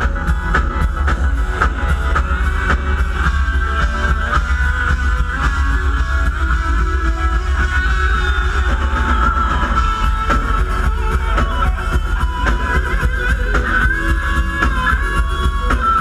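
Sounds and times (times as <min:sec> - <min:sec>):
drum kit beat: 0:00.0 - 0:16.0
electric guitar: 0:00.0 - 0:16.0
keyboards: 0:00.0 - 0:16.0.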